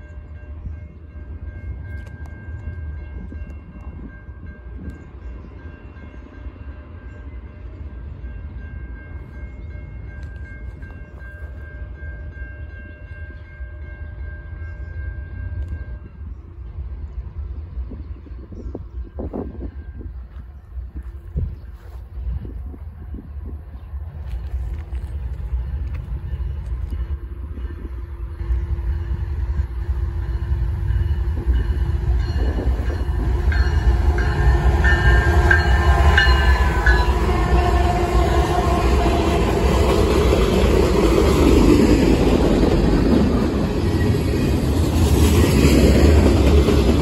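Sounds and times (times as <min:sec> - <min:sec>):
diesel locomotives: 0:00.0 - 0:47.0
rumble of freight cars rolling: 0:00.0 - 0:47.0.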